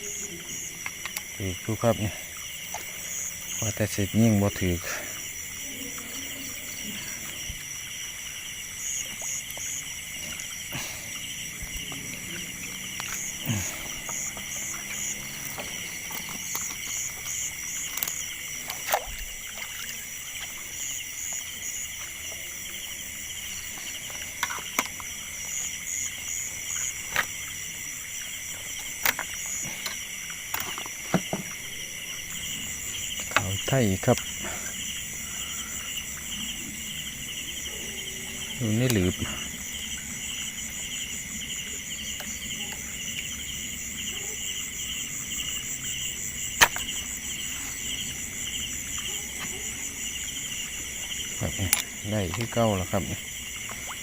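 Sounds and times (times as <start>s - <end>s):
frog calls: 0.0s - 54.0s
insects trilling: 0.0s - 54.0s.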